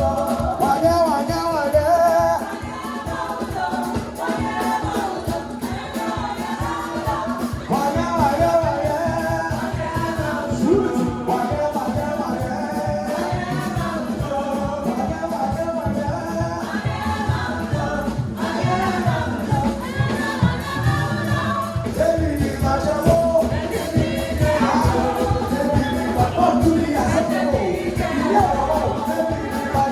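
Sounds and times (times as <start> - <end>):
band with fast beat: 0.0 - 29.9
choir and lead singers singing: 0.0 - 29.9.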